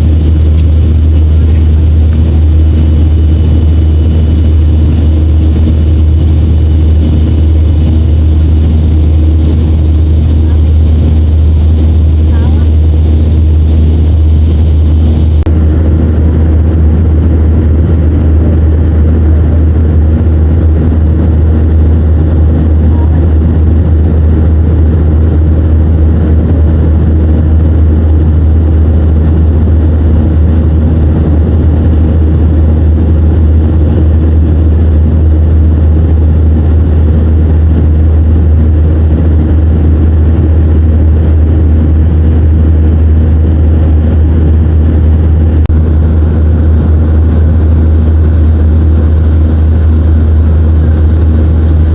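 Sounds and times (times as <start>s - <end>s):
airflow: 0.0s - 51.9s
jet engines droning in cabin: 0.0s - 51.9s.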